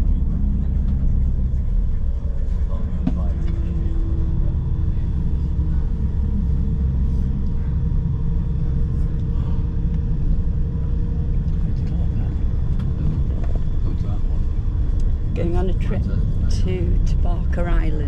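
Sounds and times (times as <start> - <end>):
coach engine and road rumble: 0.0 - 18.0.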